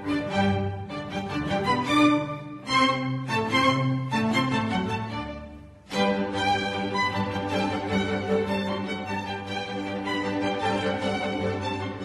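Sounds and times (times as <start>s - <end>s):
bowed strings music: 0.0s - 12.0s.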